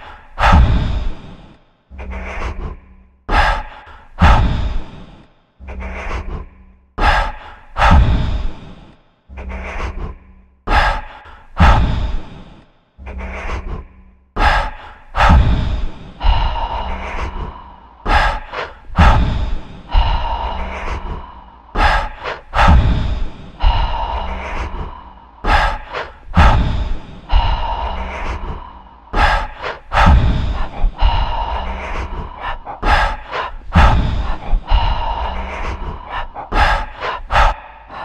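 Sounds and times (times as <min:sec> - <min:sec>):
person breathing sharply and gasping: 0:00.0 - 0:38.0.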